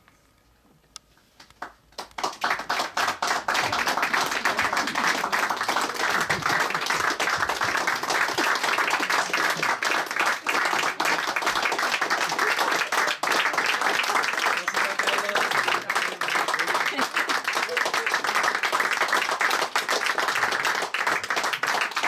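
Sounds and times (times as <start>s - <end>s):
audience applause: 1.6s - 22.0s.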